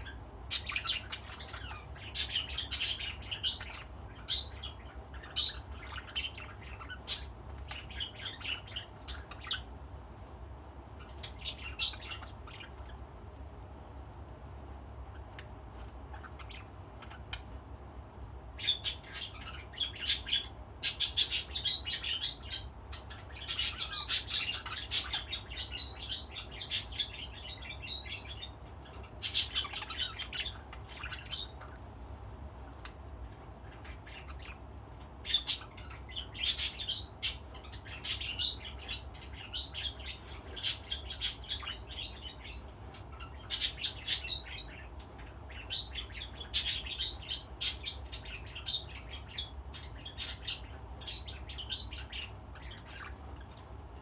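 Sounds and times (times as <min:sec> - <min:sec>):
budgerigars chirping: 0:00.0 - 0:09.7, 0:11.0 - 0:13.0, 0:16.1 - 0:17.5, 0:18.5 - 0:31.8, 0:33.6 - 0:53.5
faint low hum: 0:00.0 - 0:54.0.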